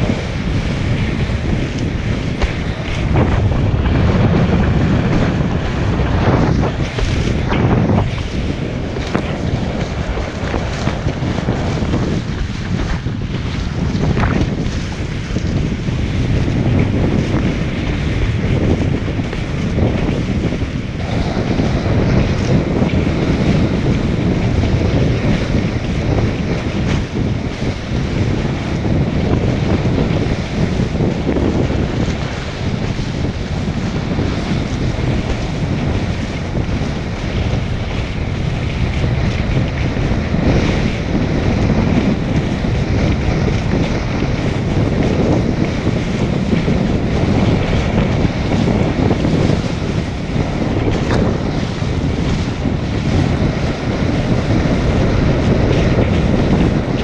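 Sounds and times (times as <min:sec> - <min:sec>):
water rushing under kiteboard: 0:00.0 - 0:57.0
wind buffeting microphone: 0:00.0 - 0:57.0.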